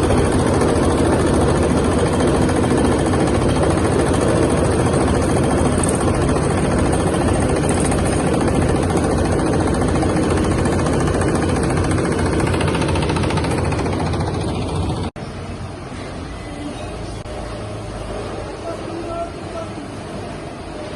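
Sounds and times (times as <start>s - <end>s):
machine running with mechanical din: 0.0s - 20.9s.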